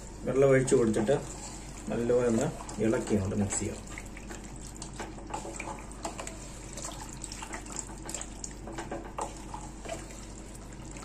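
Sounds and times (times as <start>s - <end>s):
curry sloshing and squelching: 1.1s - 11.0s.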